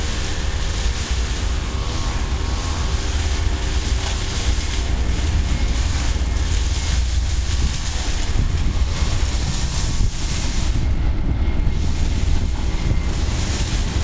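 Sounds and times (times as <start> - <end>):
distant diesel locomotive running: 0.0 - 14.0
wind buffeting microphone: 0.0 - 14.0.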